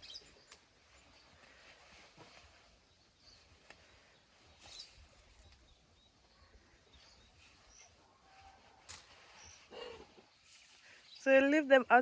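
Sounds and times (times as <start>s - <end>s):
faint bird chirps: 0.0s - 11.4s.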